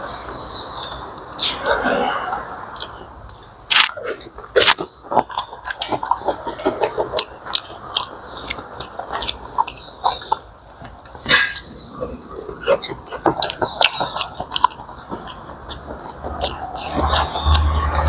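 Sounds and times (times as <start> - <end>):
person chewing and crunching: 2.8 - 18.0.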